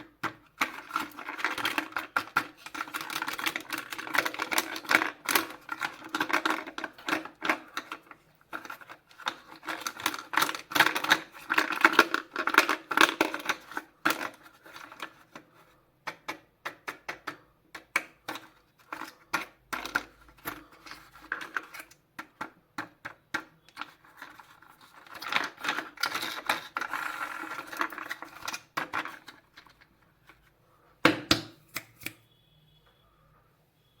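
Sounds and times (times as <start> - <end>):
plastic toys clicking and rattling: 0.0 - 30.5.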